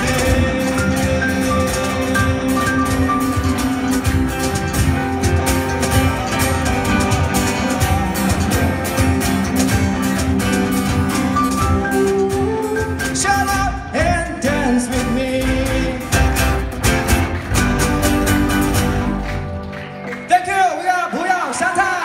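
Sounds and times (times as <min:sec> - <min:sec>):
bass guitar: 0:00.0 - 0:20.5
cajon beat: 0:00.0 - 0:20.5
electric guitar: 0:00.0 - 0:20.6
acoustic guitar: 0:00.0 - 0:20.8
keyboard: 0:00.0 - 0:22.0.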